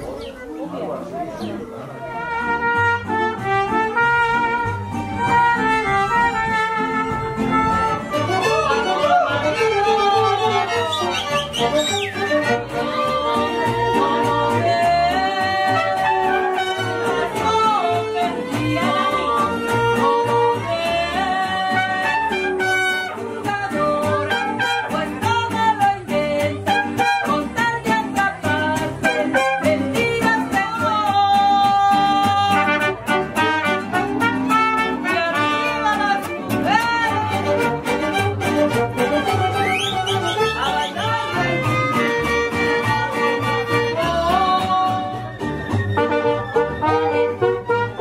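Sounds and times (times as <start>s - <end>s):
mariachi band playing: 0.0s - 48.0s.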